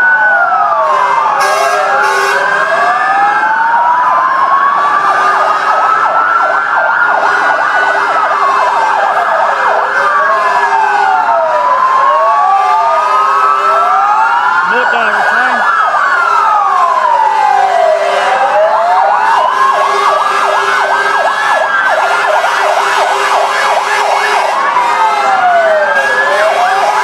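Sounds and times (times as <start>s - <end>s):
fire truck sirens wailing: 0.0s - 27.0s.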